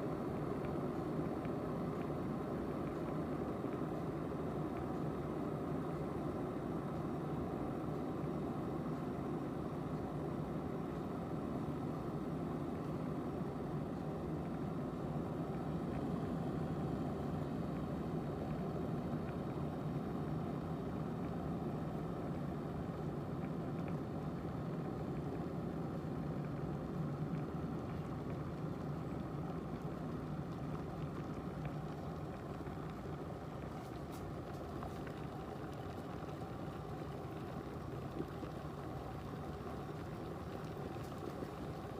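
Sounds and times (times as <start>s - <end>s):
electric kettle heating water: 0.0s - 41.9s.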